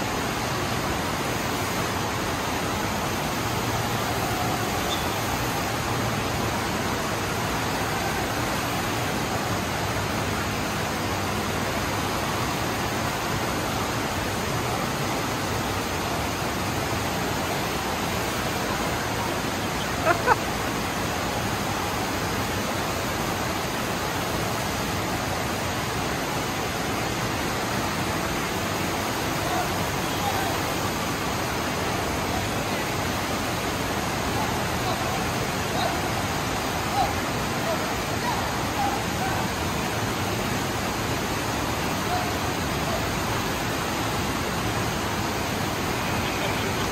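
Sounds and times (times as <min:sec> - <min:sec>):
water rushing up slope: 0:00.0 - 0:46.9.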